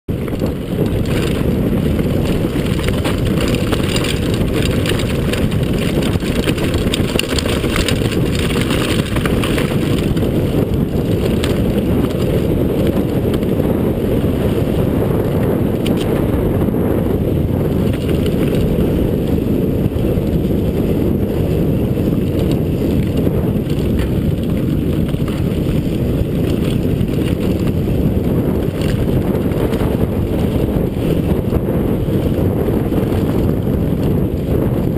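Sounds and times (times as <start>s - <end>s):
bike tyres rattling over stones: 0.1s - 34.9s
wind buffeting microphone: 0.1s - 34.9s.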